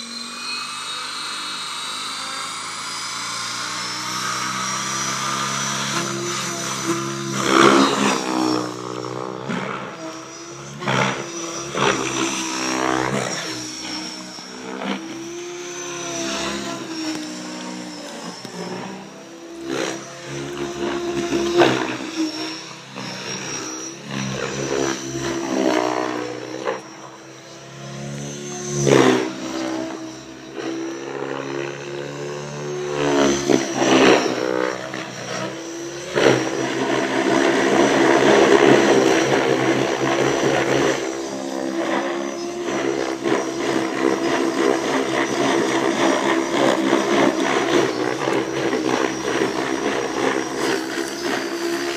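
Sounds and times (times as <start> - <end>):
rc helicopter rotor and motor whine: 0.0 - 51.9.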